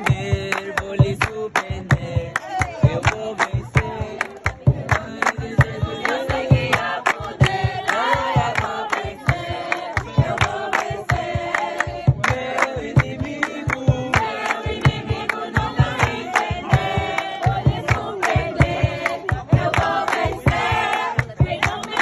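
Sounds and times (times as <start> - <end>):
group of voices singing: 0.0 - 22.0
steady fast beat: 0.0 - 22.0.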